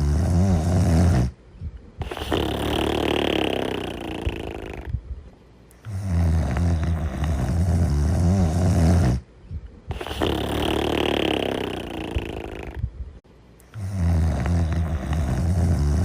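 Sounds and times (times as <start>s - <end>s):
person snoring: 0.0s - 1.4s, 2.0s - 5.0s, 5.8s - 9.2s, 9.9s - 12.8s, 13.7s - 16.0s.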